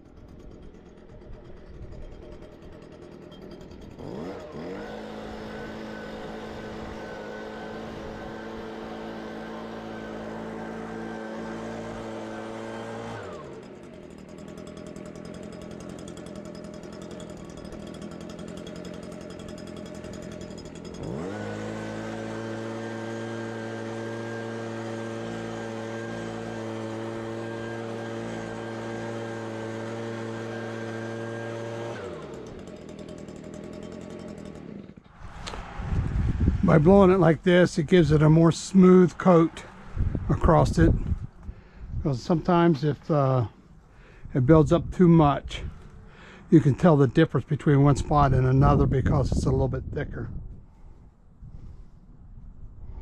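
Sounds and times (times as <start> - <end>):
blower engine running: 0.0 - 50.0.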